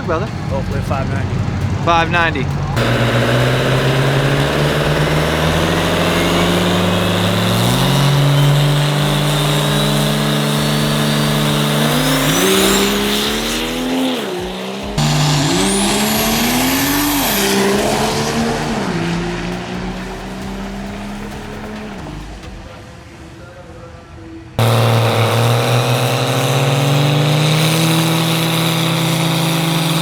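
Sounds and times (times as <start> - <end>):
diesel truck engine revving: 0.0 - 22.6, 24.6 - 30.0
turbocharger whistle: 2.7 - 22.3, 24.6 - 30.0.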